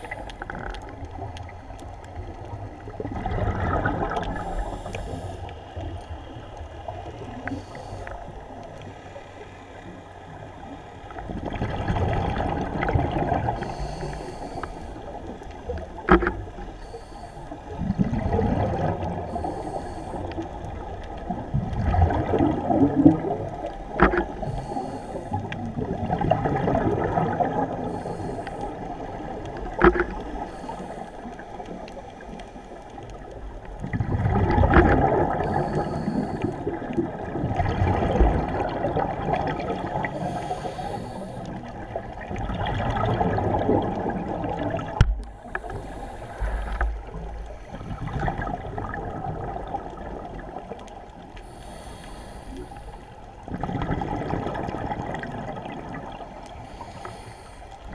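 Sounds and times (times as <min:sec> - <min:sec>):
scuba regulator bubbling underwater: 0:00.0 - 0:08.9, 0:10.2 - 0:57.9.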